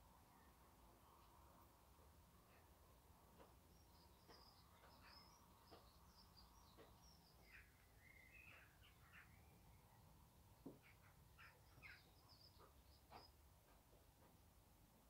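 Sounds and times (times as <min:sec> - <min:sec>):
small birds chirping: 0:00.2 - 0:14.4.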